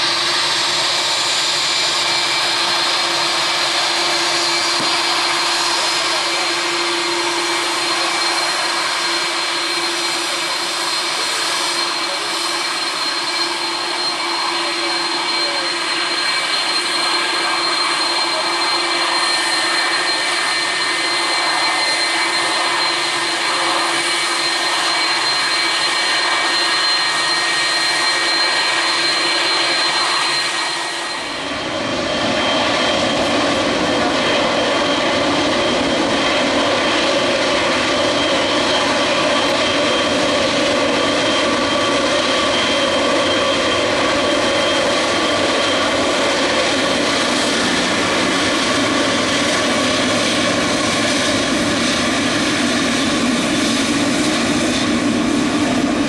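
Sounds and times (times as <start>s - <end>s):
high jet engine whine: 0.0s - 56.0s
jet engines roaring: 0.0s - 56.0s.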